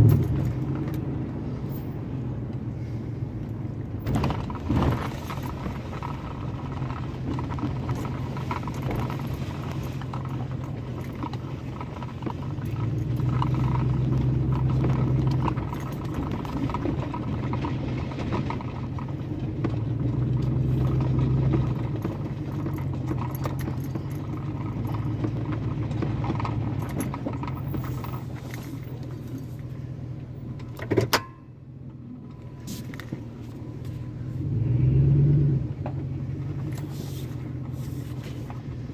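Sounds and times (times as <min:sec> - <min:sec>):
truck engine without muffler: 0:00.0 - 0:38.9.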